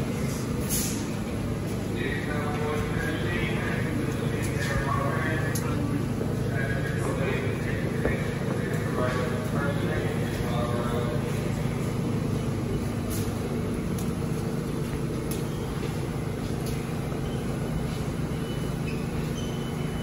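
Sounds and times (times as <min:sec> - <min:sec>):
subway train humming: 0:00.0 - 0:20.0.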